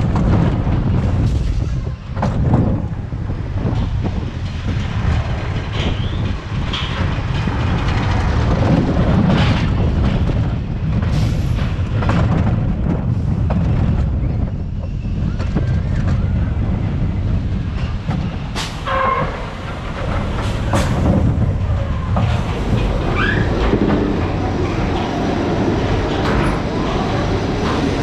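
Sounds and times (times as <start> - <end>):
roller coaster wheels clattering: 0.0 - 28.0
wind rushing on microphone: 0.0 - 28.0.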